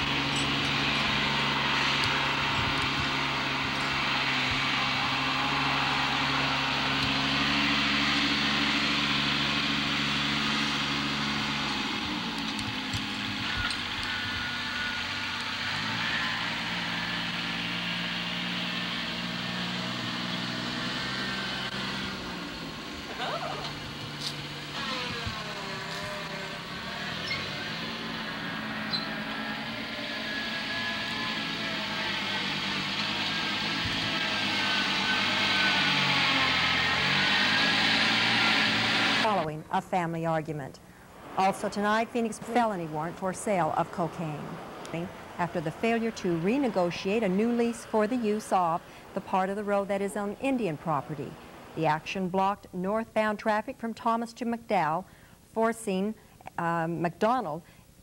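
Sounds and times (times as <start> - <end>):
tractor engine running: 0.0 - 52.5.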